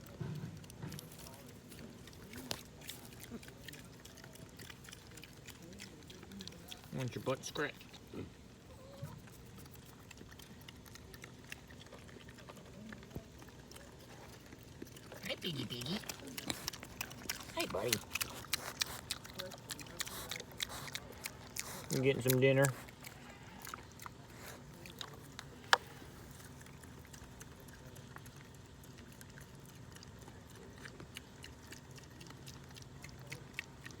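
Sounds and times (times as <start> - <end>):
piglets chewing feed: 0.0 - 34.0
soft low pig grunts: 0.0 - 34.0.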